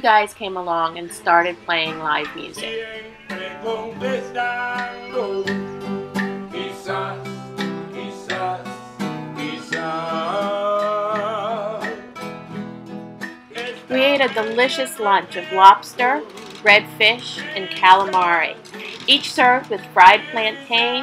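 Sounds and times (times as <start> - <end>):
acoustic guitar playing: 0.0 - 21.0
person singing with vibrato: 2.3 - 12.1, 13.5 - 21.0.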